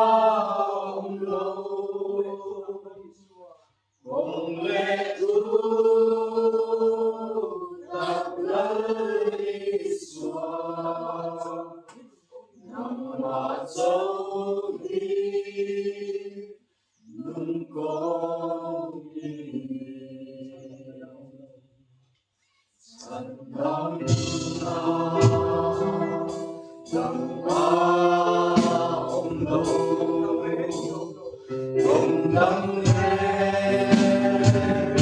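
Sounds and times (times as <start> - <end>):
group singing unaccompanied: 0.0 - 21.5, 22.8 - 35.0.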